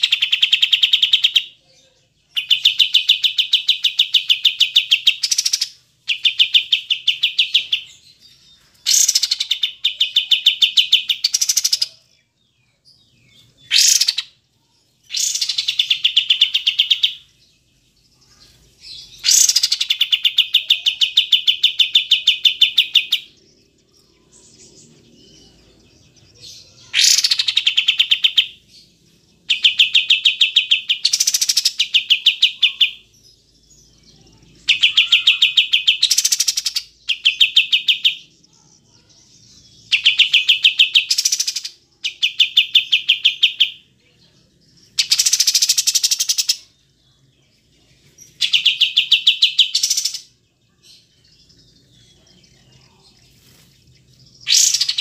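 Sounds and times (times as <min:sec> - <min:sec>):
bird singing rapid notes: 0:02.3 - 0:55.0.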